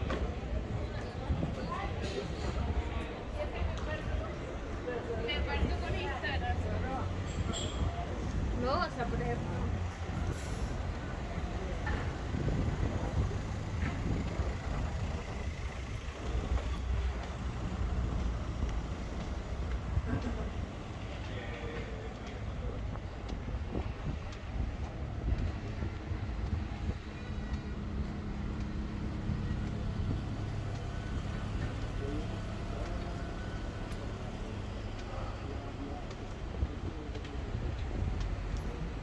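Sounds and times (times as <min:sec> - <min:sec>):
low rumble of street traffic: 0:00.0 - 0:39.0.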